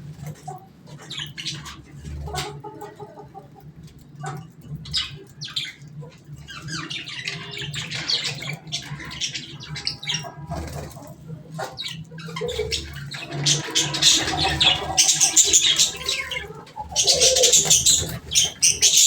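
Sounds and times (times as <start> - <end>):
birds chirping and squawking: 0.0 - 19.0.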